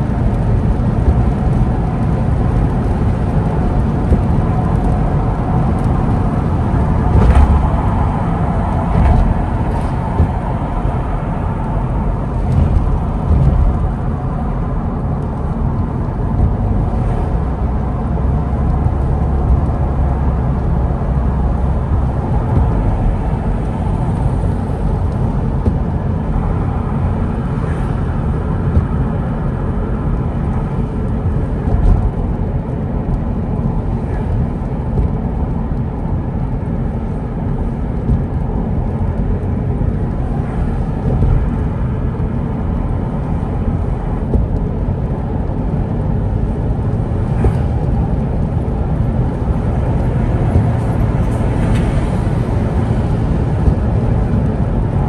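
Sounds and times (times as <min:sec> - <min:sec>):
car road noise on wet road: 0:00.0 - 0:55.0.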